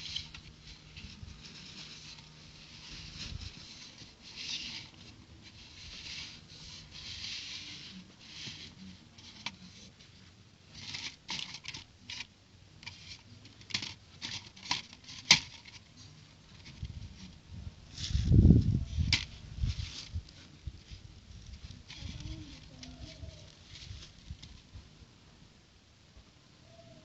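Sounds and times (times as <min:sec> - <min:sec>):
plastic bricks rustling: 0:00.0 - 0:17.4, 0:18.9 - 0:24.7.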